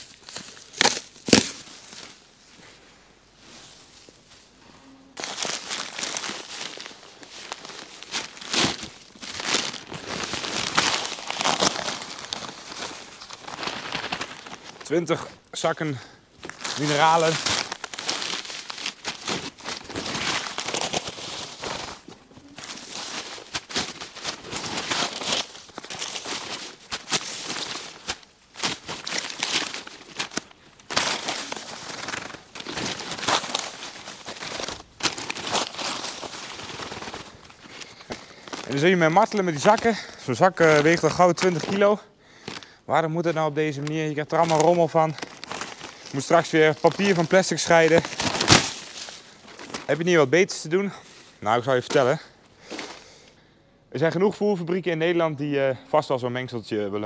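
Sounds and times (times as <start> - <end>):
paper sacks crinkling and tearing: 0.0 - 2.4, 3.4 - 53.1.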